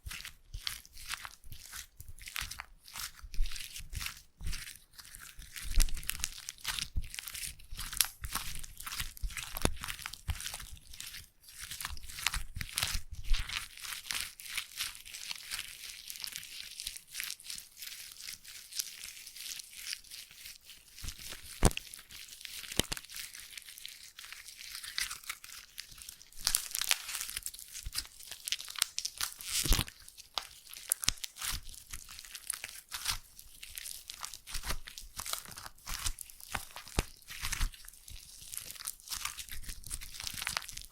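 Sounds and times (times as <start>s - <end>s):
slime squishing against microphone: 0.0s - 40.9s.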